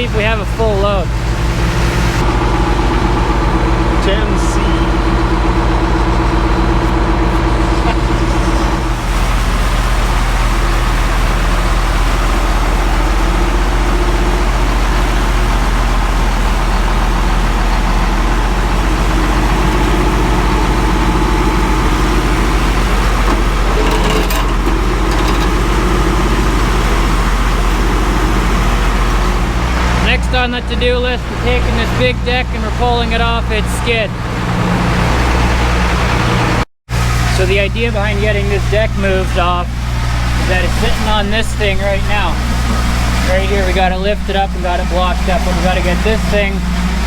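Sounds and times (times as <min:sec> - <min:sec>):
heavy vehicle engine running: 0:00.0 - 0:47.0.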